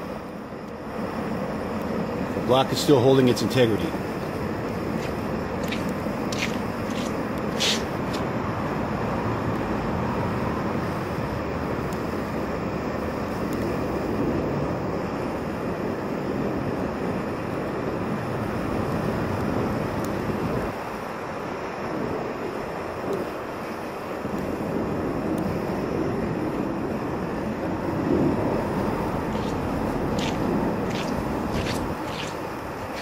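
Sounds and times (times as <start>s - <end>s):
gas torch burning: 0.0s - 33.0s.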